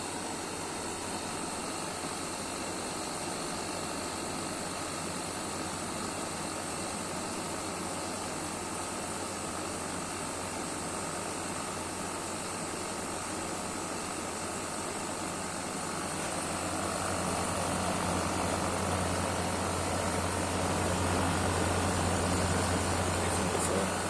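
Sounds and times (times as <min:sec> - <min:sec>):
air conditioner compressor hum: 0:00.0 - 0:24.0.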